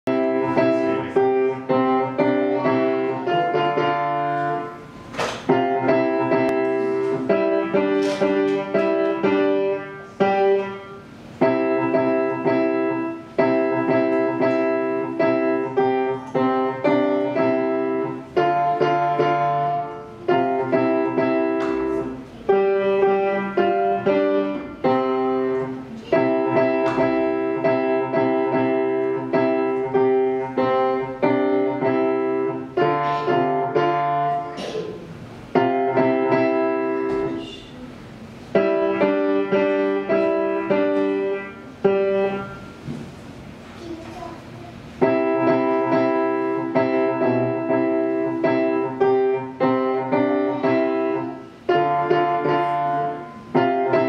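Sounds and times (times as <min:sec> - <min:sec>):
grand piano playing: 0:00.0 - 0:54.0.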